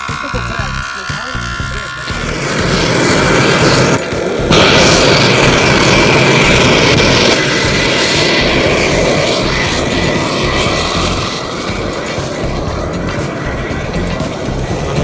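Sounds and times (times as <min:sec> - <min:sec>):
race engine at full throttle: 0:00.0 - 0:15.0.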